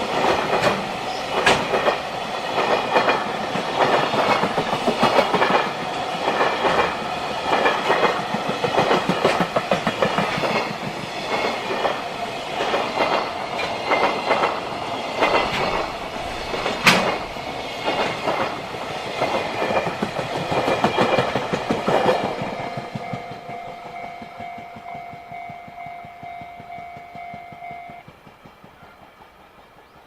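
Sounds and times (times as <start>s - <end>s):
train wheels clicking over rail joints: 0.0s - 30.0s.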